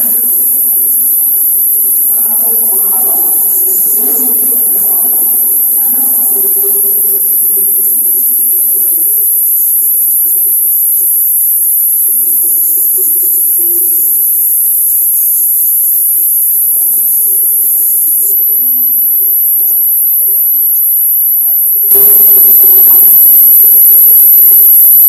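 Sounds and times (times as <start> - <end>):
high-pitched electronic hiss: 0.0 - 25.0.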